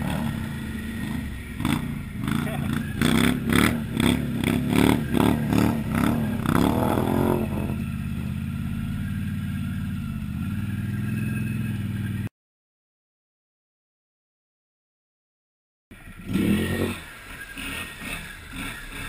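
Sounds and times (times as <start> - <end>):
atv engine running: 0.0 - 12.3, 16.0 - 19.0.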